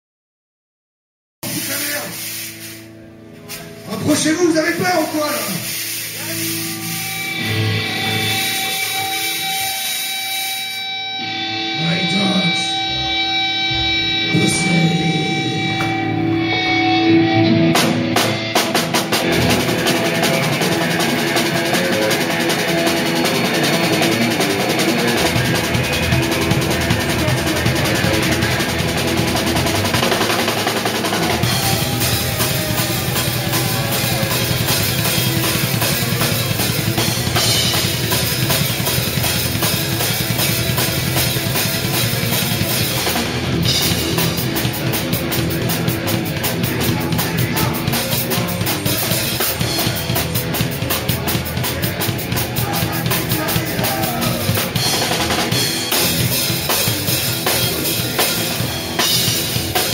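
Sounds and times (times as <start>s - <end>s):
drum kit playing: 1.4s - 59.9s
live band music: 1.4s - 59.9s.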